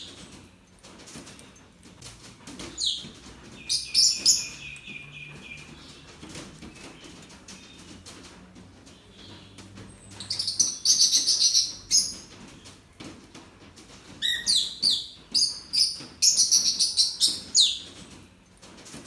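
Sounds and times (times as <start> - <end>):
small birds chirping: 2.2 - 18.5.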